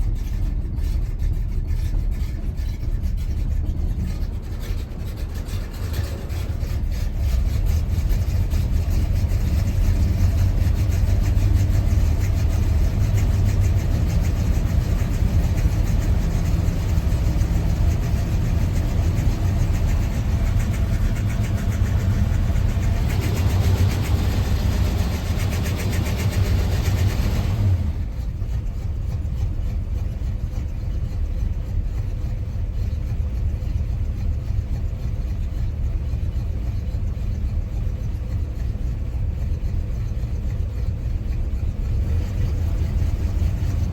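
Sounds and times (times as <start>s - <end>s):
pickup engine idling roughly: 0.0s - 43.9s.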